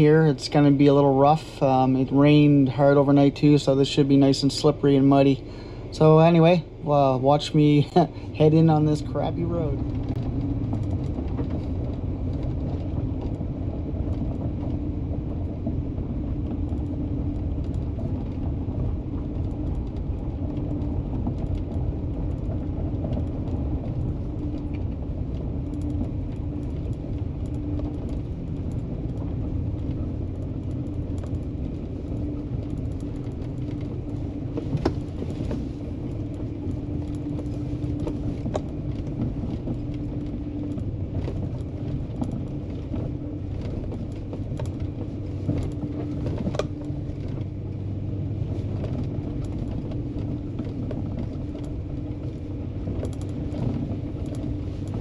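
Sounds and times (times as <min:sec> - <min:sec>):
vehicle engine running: 0:00.0 - 0:55.0
knocks and rattles from bumps: 0:08.0 - 0:55.0.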